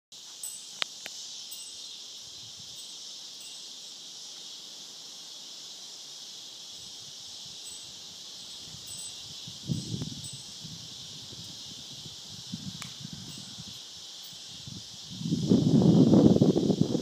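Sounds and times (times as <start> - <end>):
insects chorus drone: 0.1 - 17.0.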